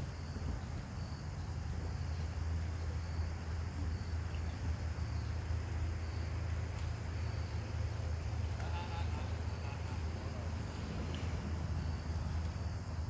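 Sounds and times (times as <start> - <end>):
insect chirps: 0.0 - 13.0
steady low rumble: 0.0 - 13.0.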